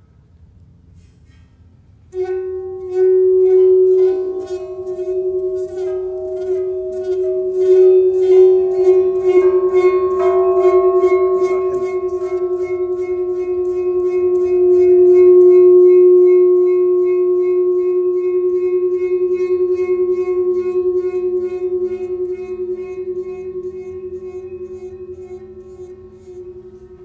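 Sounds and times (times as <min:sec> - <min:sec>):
higher tones: 0:02.2 - 0:27.0
pulsing ringing musical tone: 0:02.2 - 0:27.0.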